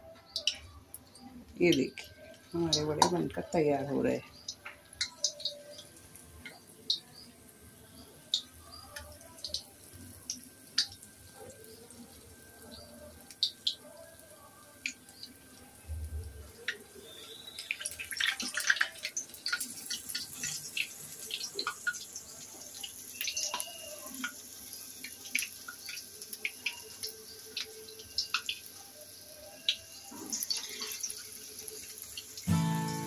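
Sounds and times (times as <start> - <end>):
food deep-frying in oil: 0.1 - 33.0.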